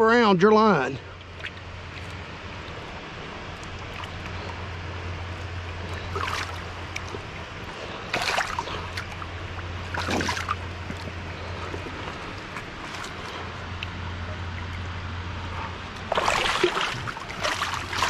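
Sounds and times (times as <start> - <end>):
rushing water: 0.7 - 18.0
fish splashing in water: 1.2 - 18.0.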